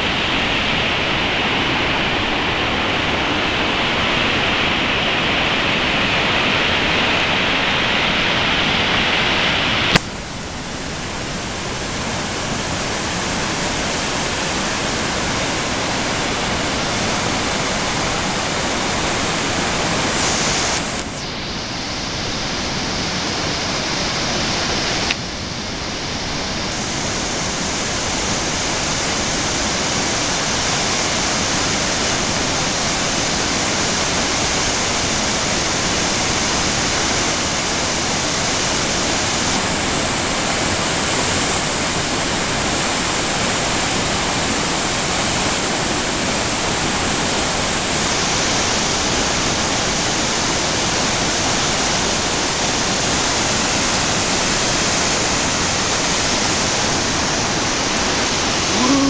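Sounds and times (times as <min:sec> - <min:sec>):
waterfall rushing through a gorge: 0:00.0 - 0:59.0.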